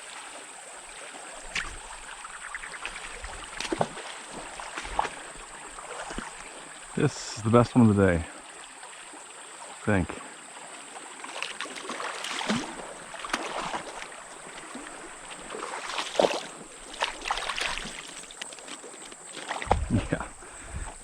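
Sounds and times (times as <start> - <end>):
stream water running: 0.0 - 21.0
fish splashing in water: 0.1 - 6.9, 11.0 - 21.0.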